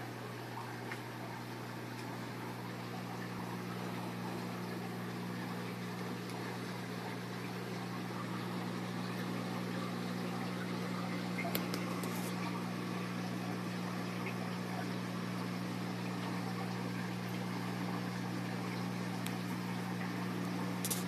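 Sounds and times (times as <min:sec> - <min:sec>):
air pump humming: 0:00.0 - 0:21.0
bubbles fizzing: 0:00.6 - 0:21.0.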